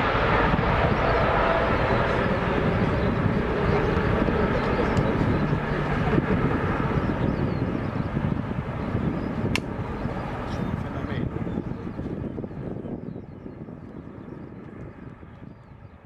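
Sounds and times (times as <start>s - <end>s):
jet airliner taking off: 0.0s - 16.0s.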